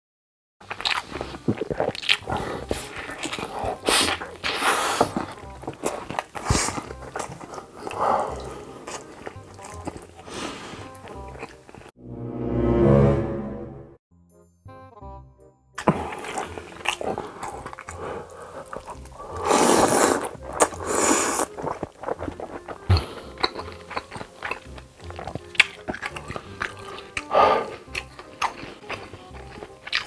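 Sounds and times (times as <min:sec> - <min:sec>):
wet chewing with smacking: 0:00.6 - 0:11.9, 0:15.8 - 0:30.0
slurping noodles: 0:00.8 - 0:11.9, 0:15.8 - 0:29.8
background music: 0:01.2 - 0:30.0.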